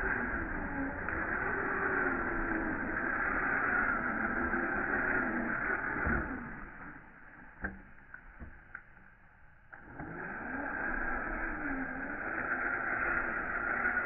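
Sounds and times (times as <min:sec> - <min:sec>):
rc car motor whining: 0:00.0 - 0:07.7, 0:09.8 - 0:14.0.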